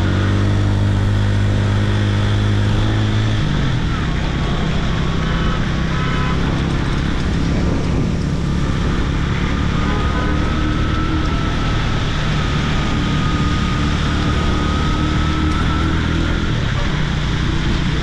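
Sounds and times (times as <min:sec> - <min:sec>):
motorcycle engine running: 0:00.0 - 0:18.0
wind rush: 0:00.8 - 0:16.8.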